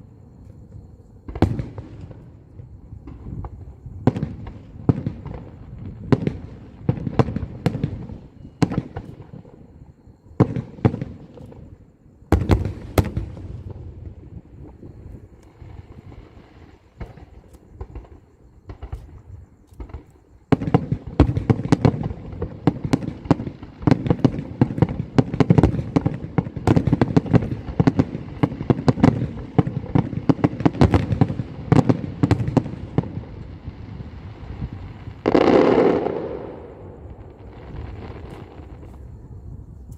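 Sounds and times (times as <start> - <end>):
fireworks bangs and crackling: 1.2 - 39.9.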